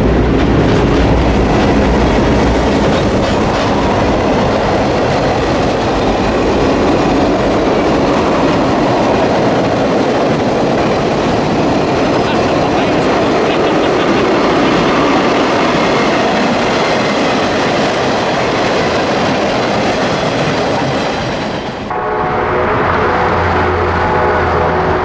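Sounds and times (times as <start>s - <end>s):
wheels clicking over rail joints: 0.0s - 21.9s
diesel locomotive drone: 0.0s - 25.0s
freight cars rolling: 0.0s - 25.0s.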